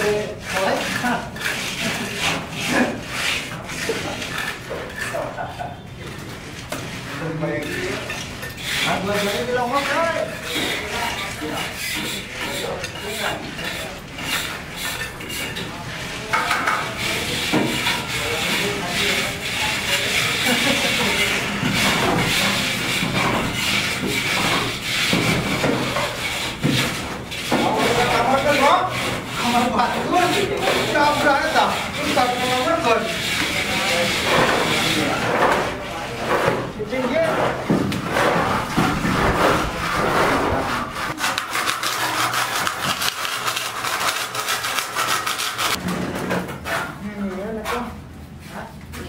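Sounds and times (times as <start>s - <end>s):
hand tool scraping mix in bucket: 0.0s - 46.9s.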